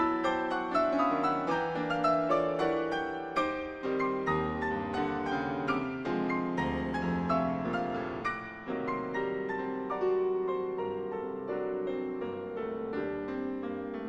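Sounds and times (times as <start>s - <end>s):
grand piano playing chords: 0.0s - 14.0s.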